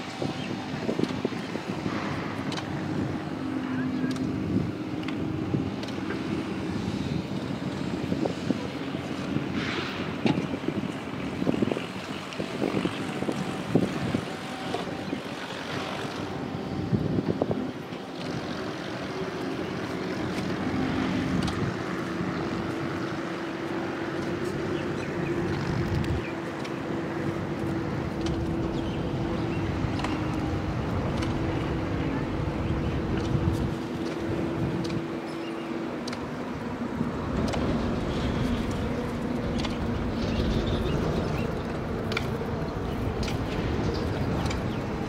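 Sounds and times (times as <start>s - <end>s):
steady motor drone: 0.0s - 45.0s
wind buffeting microphone: 0.0s - 45.0s.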